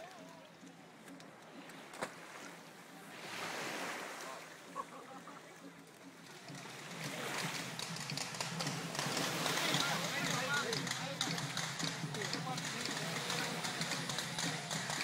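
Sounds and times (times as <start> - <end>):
small waves washing: 0.0 - 15.0.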